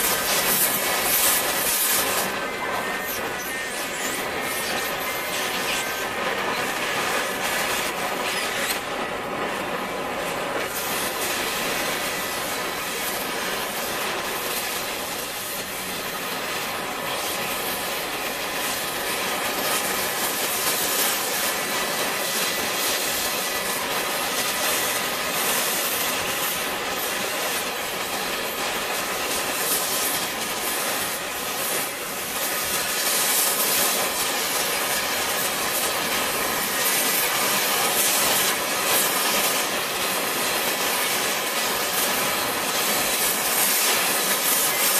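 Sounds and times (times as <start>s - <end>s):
cutting torch flame hissing: 0.0s - 44.9s.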